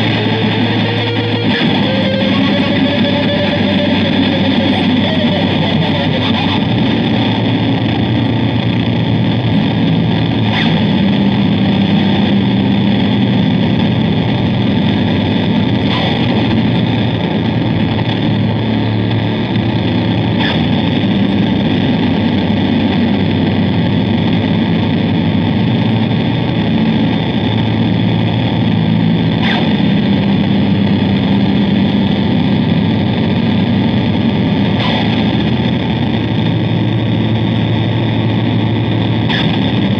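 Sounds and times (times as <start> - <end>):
distorted bass noise drone: 0.0 - 39.9.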